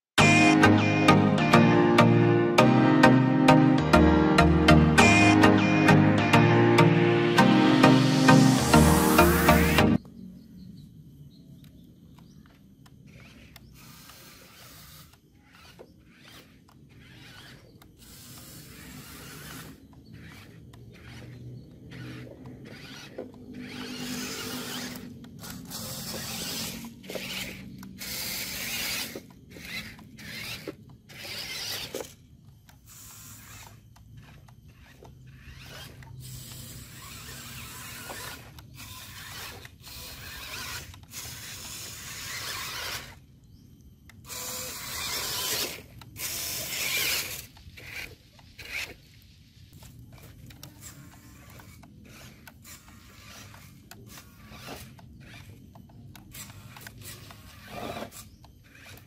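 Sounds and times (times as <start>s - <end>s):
electric motors and gearboxes whirring: 0.0s - 59.0s.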